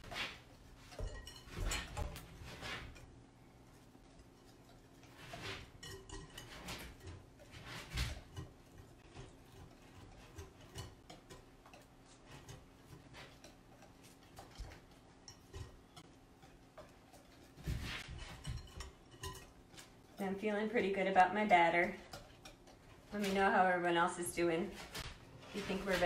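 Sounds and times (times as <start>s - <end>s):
whisk scraping glass bowl: 0.0s - 23.7s, 25.5s - 26.0s.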